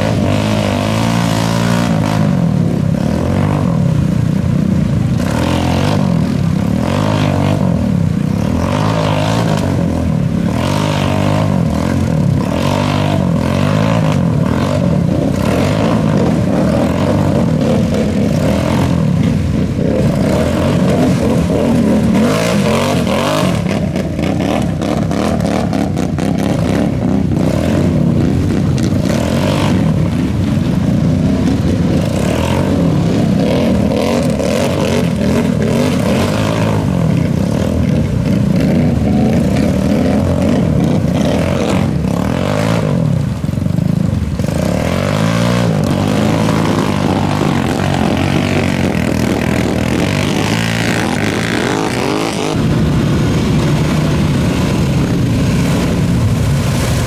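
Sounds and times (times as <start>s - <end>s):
off-road engines revving: 0.0s - 57.0s.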